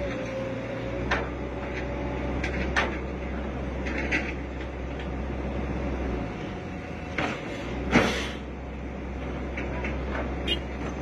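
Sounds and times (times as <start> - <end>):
excavator diesel engine droning: 0.0 - 11.0.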